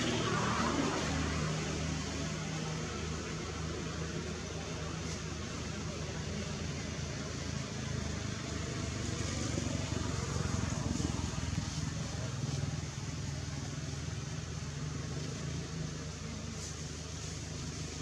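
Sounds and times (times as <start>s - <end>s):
constant hiss: 0.0s - 18.0s.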